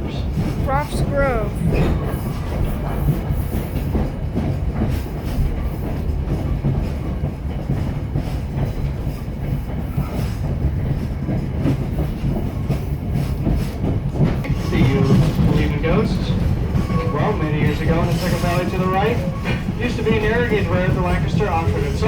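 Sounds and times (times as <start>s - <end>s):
train coach rumbling: 0.0s - 22.0s
wheels clicking over rail joints: 3.7s - 22.0s.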